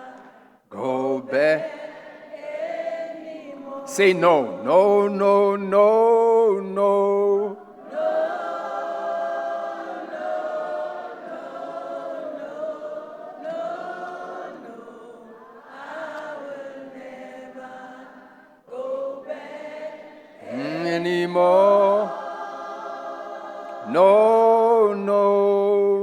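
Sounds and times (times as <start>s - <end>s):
congregation singing: 0.0s - 26.0s.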